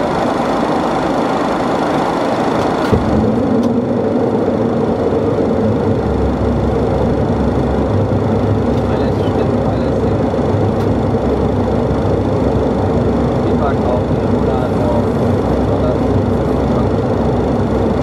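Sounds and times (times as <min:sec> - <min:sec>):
deep rumble: 0:00.0 - 0:18.0
jet engine cabin drone: 0:00.0 - 0:18.0.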